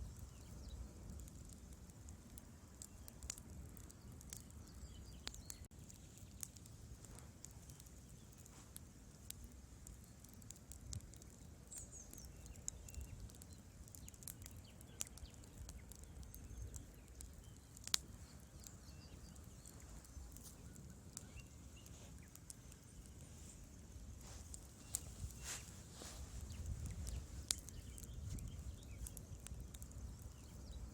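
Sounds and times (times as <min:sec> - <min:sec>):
sharp pops of fire: 0:00.0 - 0:30.9
wood fire crackling: 0:00.0 - 0:30.9.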